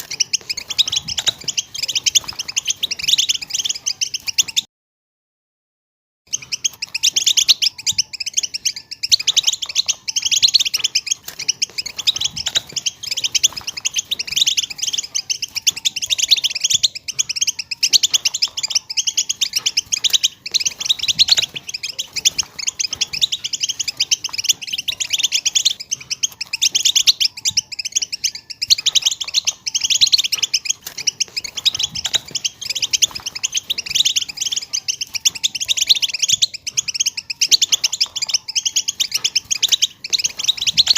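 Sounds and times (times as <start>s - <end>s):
goldfinches twittering: 0.0s - 4.6s, 6.3s - 40.9s.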